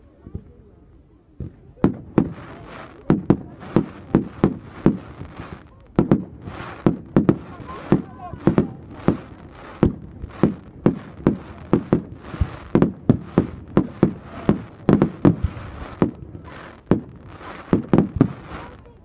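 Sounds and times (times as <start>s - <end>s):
fireworks bangs: 1.4s - 19.0s
fireworks hissing: 1.8s - 19.0s.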